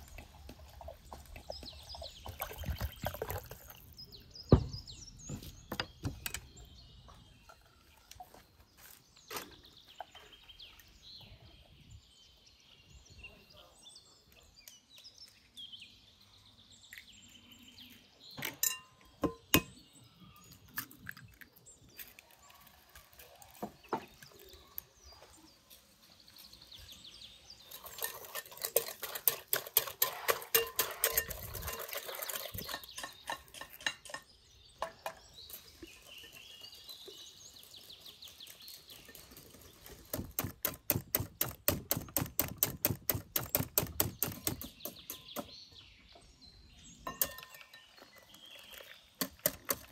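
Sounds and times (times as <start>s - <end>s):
birds chirping faintly: 0.0s - 49.9s.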